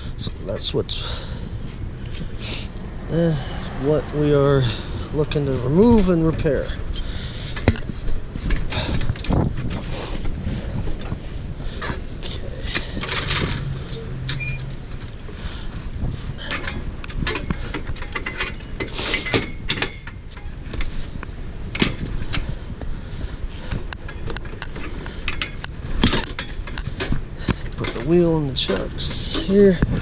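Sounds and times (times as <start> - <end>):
knocks and scraping of tools: 2.1 - 22.6, 23.7 - 30.0.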